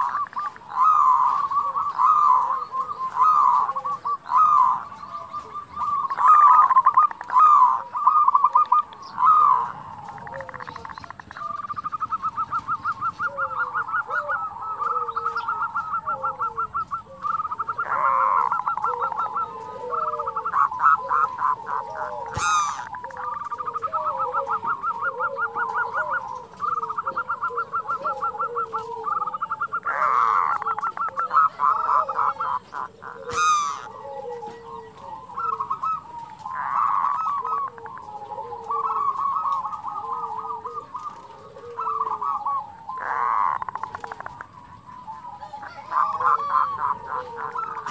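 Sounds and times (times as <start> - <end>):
doves low cooing: 0.0 - 47.9
doves rapid rattling calls: 0.0 - 47.9.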